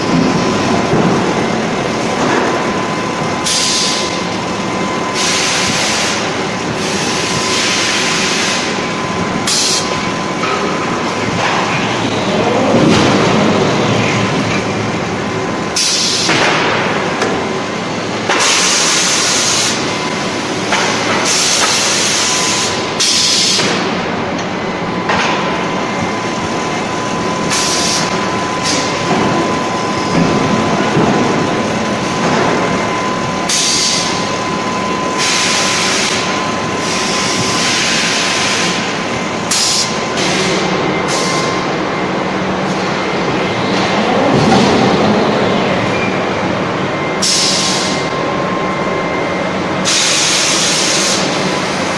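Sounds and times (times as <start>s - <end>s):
industrial machinery din: 0.0s - 51.9s.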